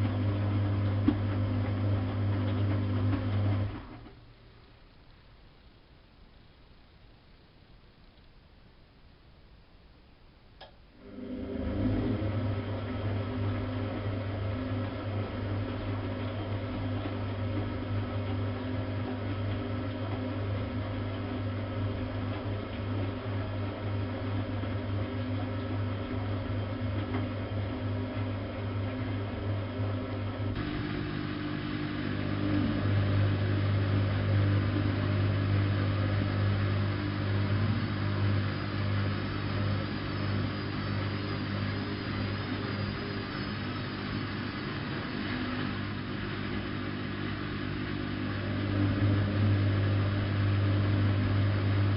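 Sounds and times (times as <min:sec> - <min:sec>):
washing machine humming: 0:00.0 - 0:07.2, 0:10.6 - 0:51.9.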